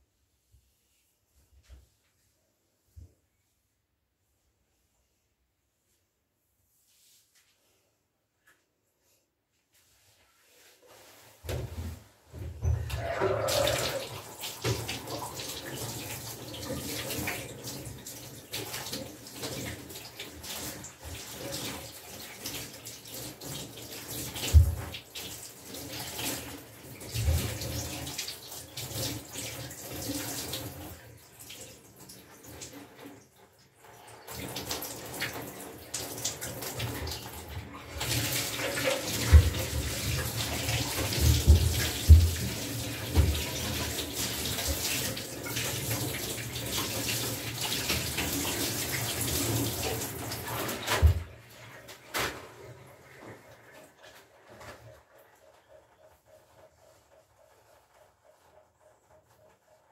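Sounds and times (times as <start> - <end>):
water running into bathtub: 10.0 - 55.2, 56.4 - 59.9.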